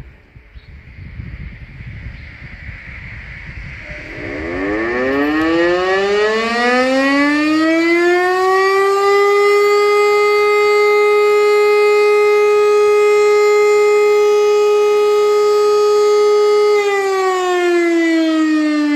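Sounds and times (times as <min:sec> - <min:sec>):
siren rising to steady tone: 0:01.8 - 0:18.9.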